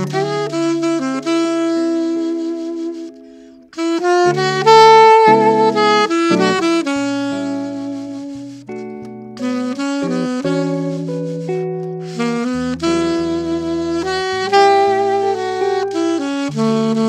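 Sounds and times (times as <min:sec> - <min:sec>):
alto saxophone ballad melody: 0:00.0 - 0:17.0
jazz guitar accompaniment: 0:00.0 - 0:17.0.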